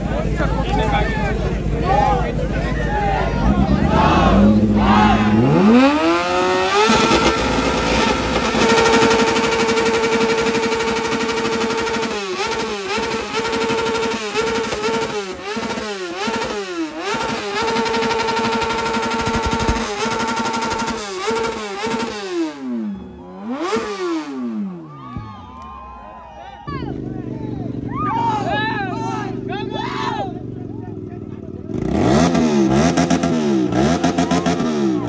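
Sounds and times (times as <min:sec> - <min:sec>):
motorcycle engine revving: 0:00.0 - 0:24.9, 0:26.8 - 0:35.0.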